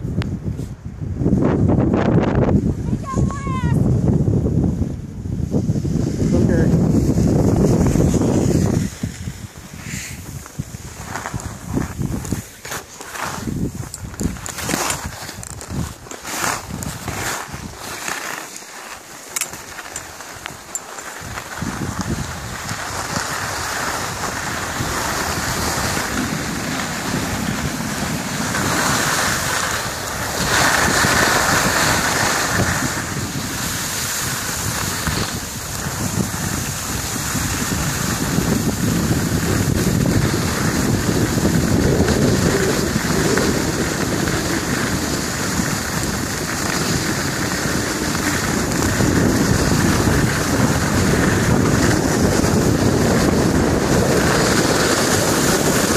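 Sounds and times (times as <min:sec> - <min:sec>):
wind buffeting microphone: 0:00.0 - 0:18.1, 0:19.0 - 0:55.9
skis scraping over packed snow: 0:00.1 - 0:55.9.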